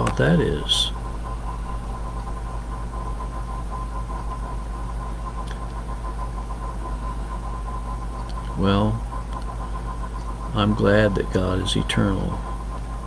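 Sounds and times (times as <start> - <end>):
low background hum: 0.0 - 13.0
thin constant whine: 0.0 - 13.0.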